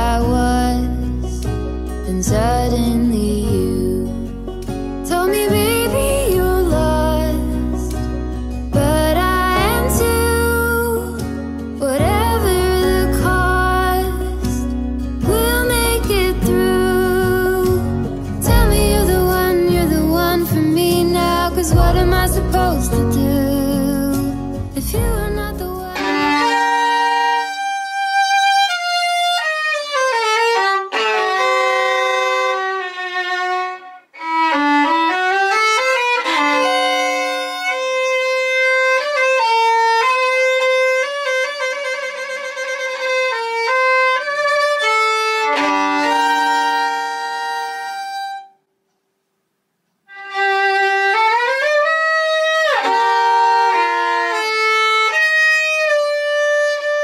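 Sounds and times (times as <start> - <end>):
solo violin melody: 0.0 - 48.6, 50.1 - 57.0.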